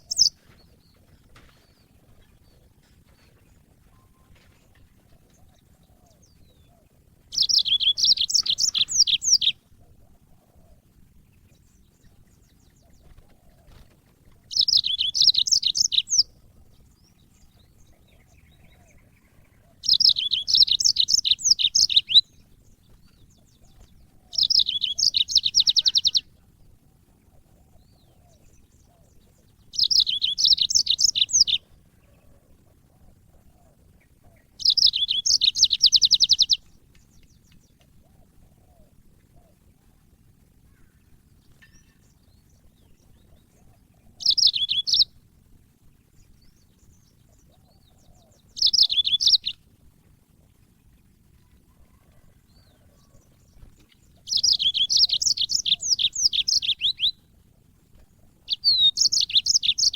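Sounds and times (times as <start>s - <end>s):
canary trilling song: 0.0s - 9.8s, 11.2s - 38.4s, 40.7s - 45.3s, 46.3s - 49.7s, 50.8s - 57.3s, 58.2s - 59.9s.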